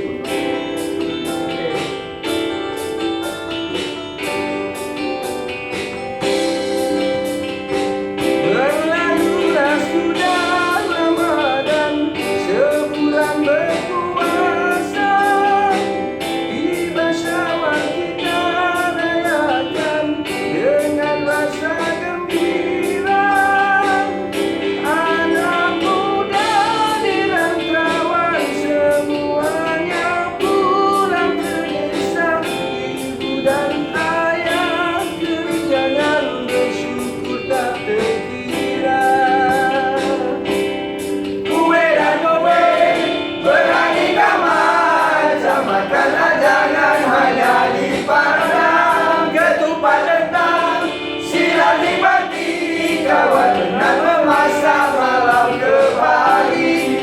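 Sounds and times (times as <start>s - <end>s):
song with singing and beat: 0.0s - 57.0s.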